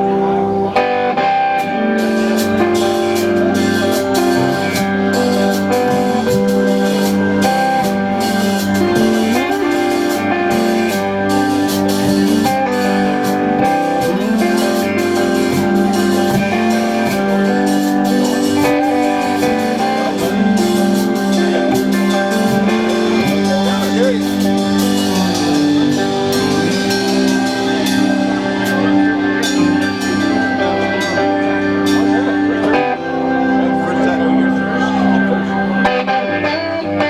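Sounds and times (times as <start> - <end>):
drums keeping time: 0.0 - 36.7
guitar sustained chords: 0.0 - 37.0.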